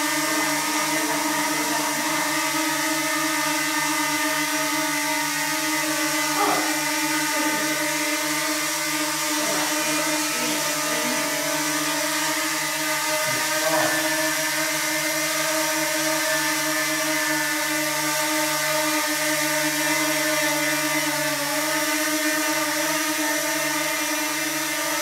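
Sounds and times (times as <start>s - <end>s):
drone propellers whirring: 0.0s - 25.0s.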